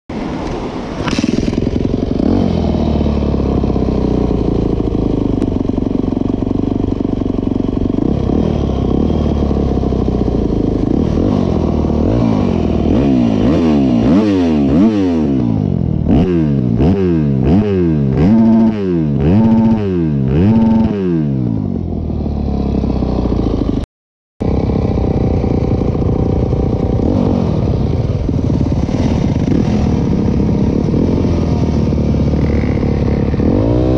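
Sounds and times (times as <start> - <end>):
dirt bike engine revving: 1.0 - 33.9.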